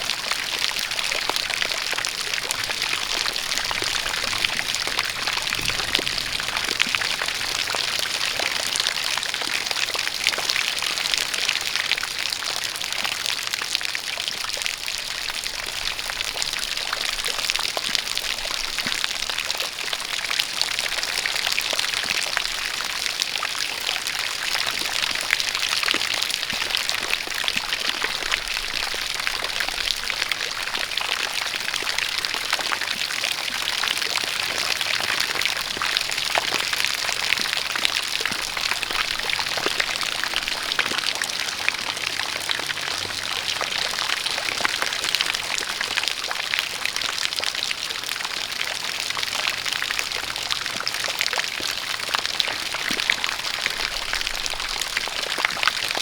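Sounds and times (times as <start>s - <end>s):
rain falling: 0.0s - 56.0s
water pouring from spout: 0.0s - 56.0s.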